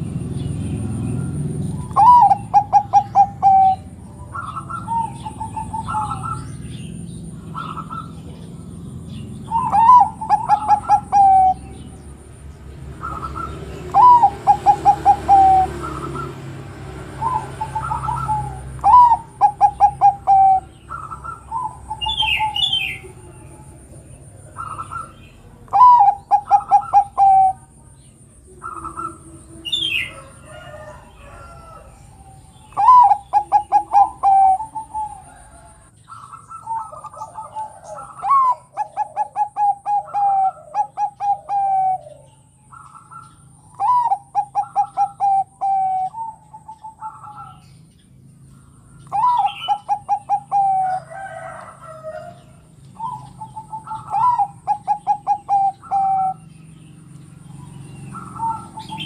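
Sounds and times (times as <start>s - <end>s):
dove cooing song: 0.0s - 59.0s.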